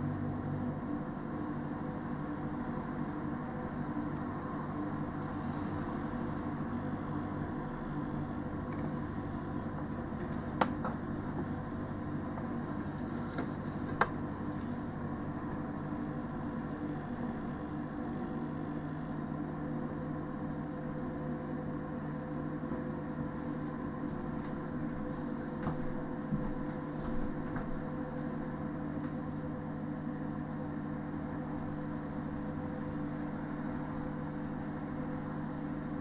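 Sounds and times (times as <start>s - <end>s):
refrigeration unit humming: 0.0s - 36.0s.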